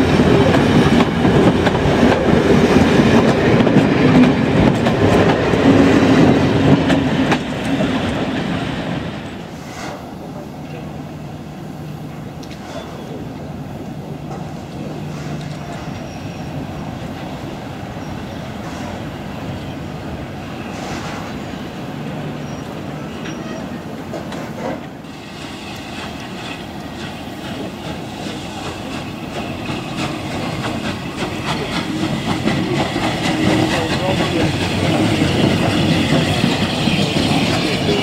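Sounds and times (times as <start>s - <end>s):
steam hissing: 0.0s - 23.1s, 24.4s - 38.0s
train wheels on rails: 0.0s - 38.0s.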